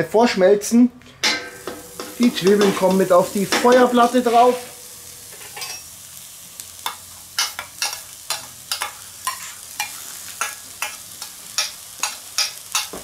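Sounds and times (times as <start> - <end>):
onions sizzling on hot plate: 1.2 - 13.0.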